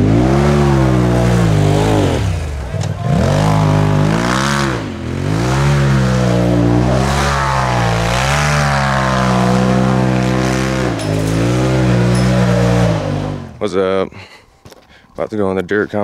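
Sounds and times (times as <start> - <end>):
turbocharged engine revving: 0.0 - 13.6.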